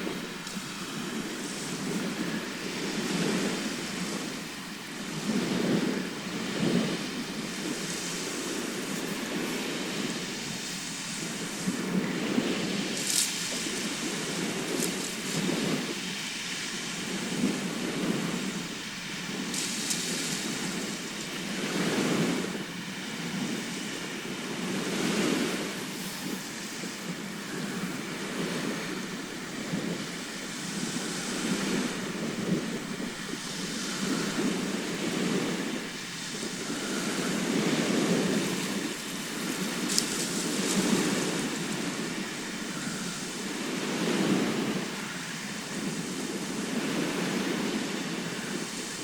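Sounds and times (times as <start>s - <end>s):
sea waves washing in: 0.0s - 49.0s.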